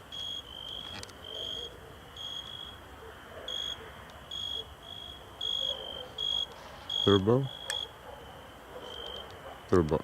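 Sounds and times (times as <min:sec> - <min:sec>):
crickets chirping: 0:00.0 - 0:09.7.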